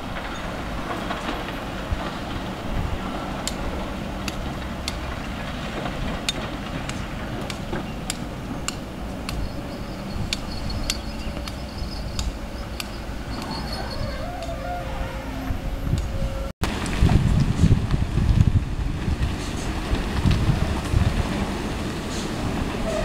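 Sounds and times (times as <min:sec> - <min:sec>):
diesel engines rumbling: 0:00.0 - 0:23.0.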